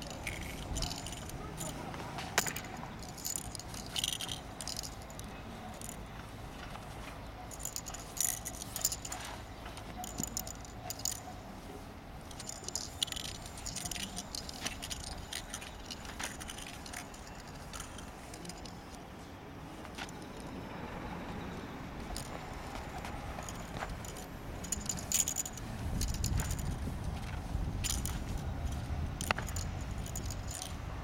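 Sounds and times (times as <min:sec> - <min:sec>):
spear rattles and swishes: 0:00.0 - 0:06.0, 0:06.7 - 0:19.0, 0:22.0 - 0:30.9.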